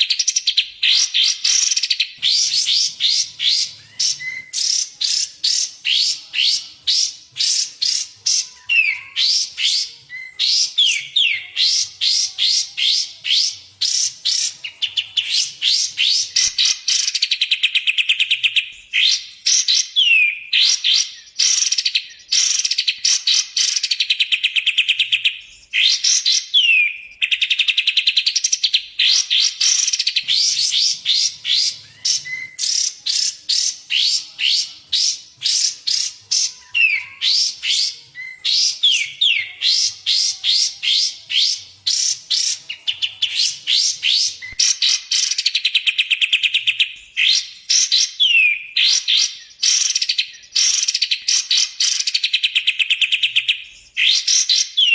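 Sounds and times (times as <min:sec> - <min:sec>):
recorded songbird song: 0:00.0 - 0:54.9.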